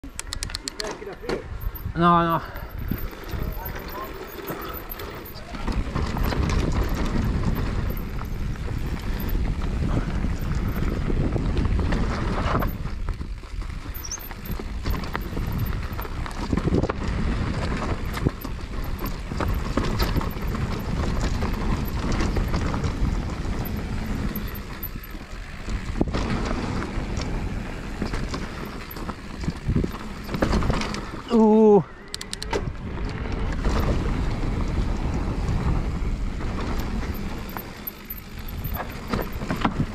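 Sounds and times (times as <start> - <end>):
bike tyres rolling on dirt: 0.0 - 32.0, 32.6 - 39.9
bike rattling over bumps: 0.0 - 39.9
wind buffeting microphone: 0.3 - 31.7, 32.3 - 39.9.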